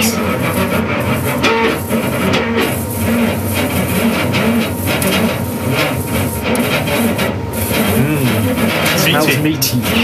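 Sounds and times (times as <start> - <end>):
laser engraver running: 0.0 - 10.0.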